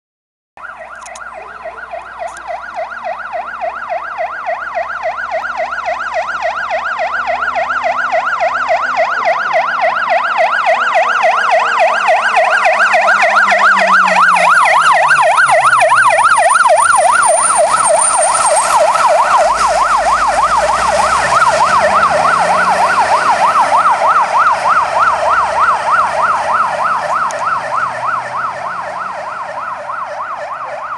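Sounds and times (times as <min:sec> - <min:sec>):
fire engine siren warbling: 0:00.6 - 0:30.9
truck engine: 0:00.6 - 0:30.9.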